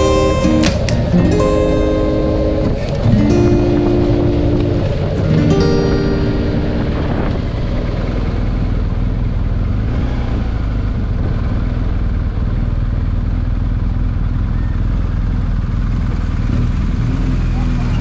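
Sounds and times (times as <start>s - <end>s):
motorcycle engine at low revs: 0.0s - 18.0s
wind and road noise: 0.0s - 18.0s.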